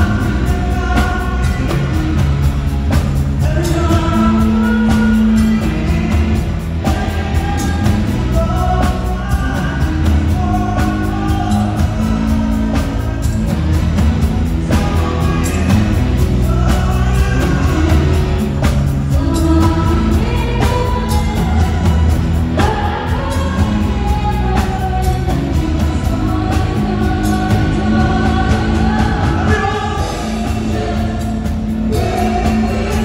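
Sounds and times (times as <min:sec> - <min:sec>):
amplified singers: 0:00.0 - 0:33.0
bass guitar: 0:00.0 - 0:33.0
electric guitars: 0:00.0 - 0:33.0
keyboard: 0:00.0 - 0:33.0
steady heavy beat: 0:00.0 - 0:33.0.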